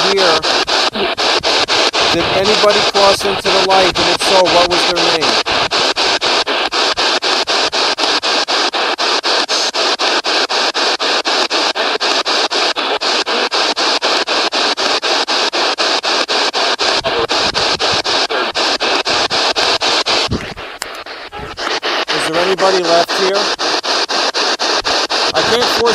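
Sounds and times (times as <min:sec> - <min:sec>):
chopped radio static: 0:00.0 - 0:25.9
faint steady whine: 0:00.0 - 0:25.9.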